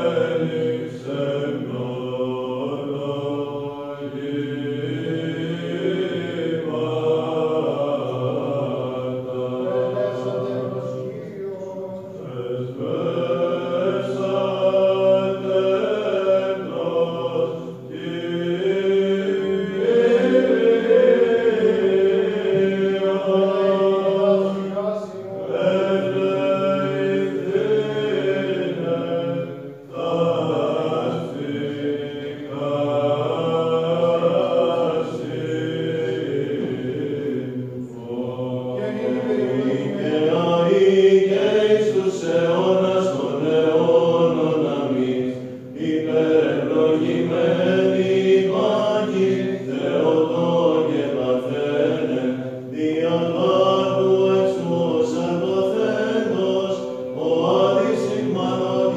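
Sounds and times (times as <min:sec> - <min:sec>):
low vocal drone: 0:00.0 - 0:58.9
men chanting: 0:00.0 - 0:58.9.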